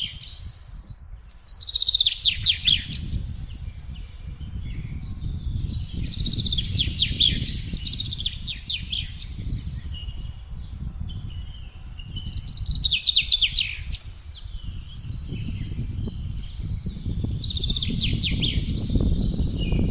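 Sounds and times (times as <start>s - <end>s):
low rumble of wind: 0.0s - 19.9s
songbirds singing: 0.0s - 19.9s.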